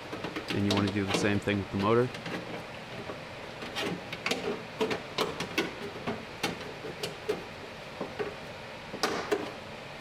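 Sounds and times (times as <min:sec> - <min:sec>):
metal clicks and knocks: 0:00.1 - 0:01.4, 0:02.1 - 0:09.6.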